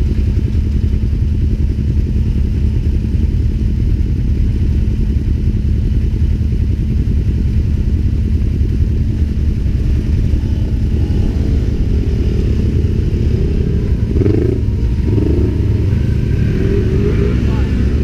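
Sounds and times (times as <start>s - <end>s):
utility vehicle engine droning: 0.0s - 18.0s.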